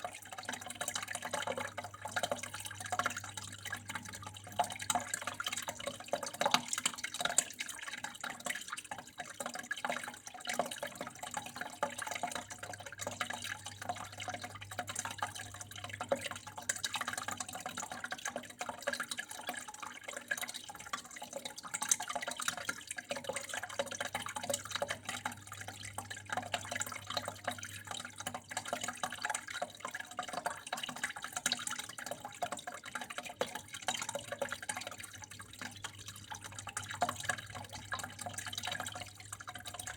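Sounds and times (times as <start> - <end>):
water drips and splashes: 0.0 - 39.9
water flowing and trickling: 0.0 - 39.9.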